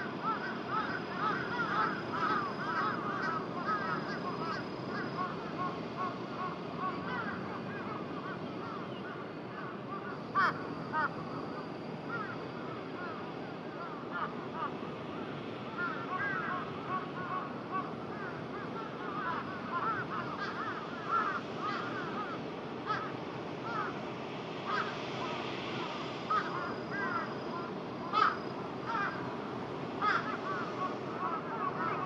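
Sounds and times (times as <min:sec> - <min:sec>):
crows cawing: 0:00.0 - 0:32.0.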